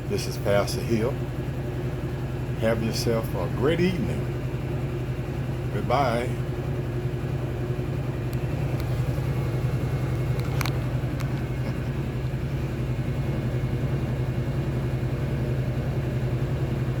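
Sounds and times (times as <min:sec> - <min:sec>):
low machine hum with pulsing beat: 0:00.0 - 0:17.0.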